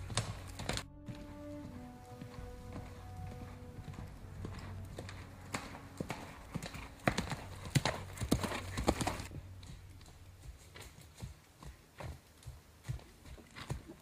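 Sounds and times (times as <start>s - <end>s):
horse hooves clip-clopping: 0.0s - 14.0s.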